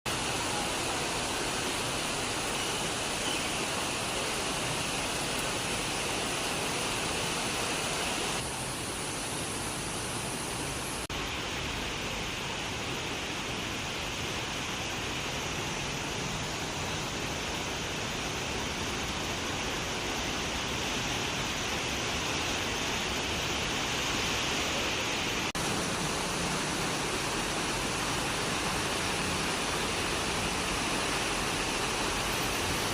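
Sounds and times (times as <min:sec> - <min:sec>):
heavy rain downpour: 0:00.1 - 0:32.9.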